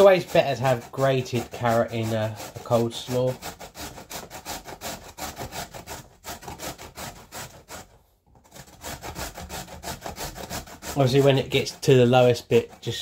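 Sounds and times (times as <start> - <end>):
carrot grated on metal grater: 0.0 - 7.7, 8.4 - 13.0.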